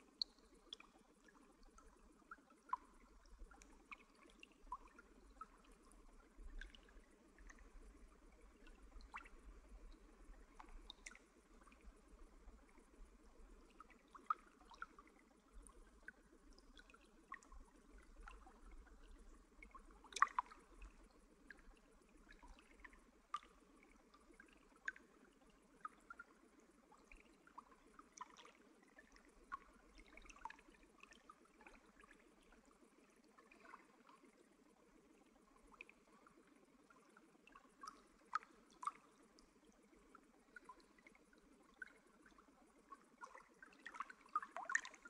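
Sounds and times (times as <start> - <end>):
faint trickling stream: 0.0 - 45.0
small water drips: 0.0 - 45.0.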